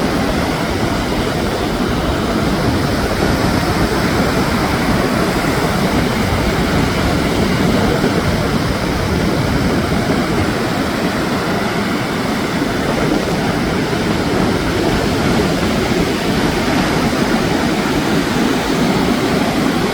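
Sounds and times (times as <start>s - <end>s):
surf at seashore: 0.0s - 19.9s
wind rumbling on microphone: 0.0s - 19.9s
wind rushing: 0.0s - 19.9s.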